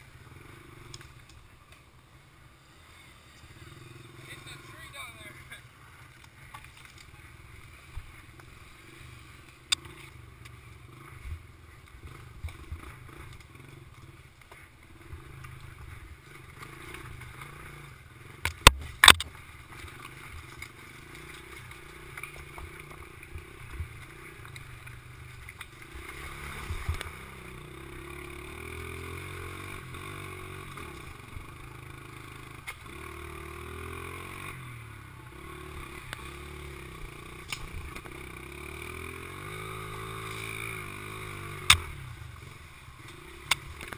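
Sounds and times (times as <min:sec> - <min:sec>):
mini bike engine running: 0:00.0 - 0:43.9
bike rattling over bumps: 0:05.8 - 0:43.9.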